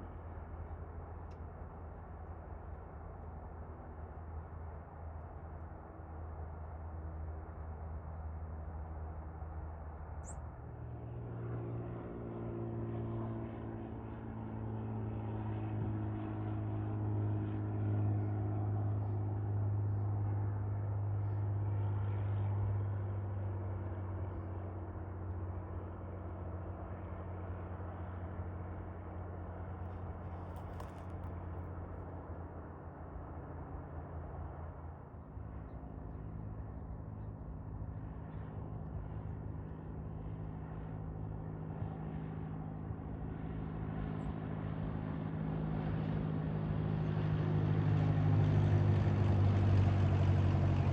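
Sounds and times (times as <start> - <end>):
low engine hum: 0.0 - 50.9.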